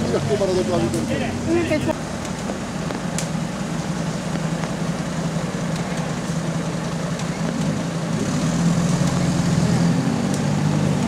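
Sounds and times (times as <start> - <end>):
buggy engine at low revs: 0.0 - 11.0.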